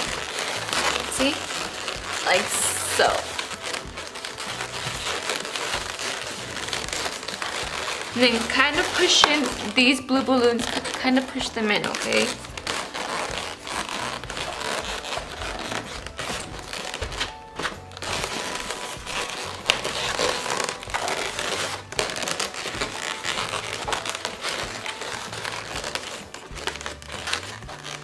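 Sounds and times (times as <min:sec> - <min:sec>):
balloons rubbing and squeaking: 0:00.0 - 0:28.0.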